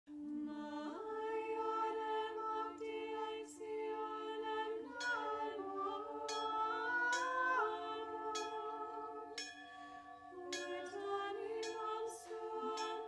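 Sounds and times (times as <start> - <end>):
voices singing in harmony: 0.1 - 13.0.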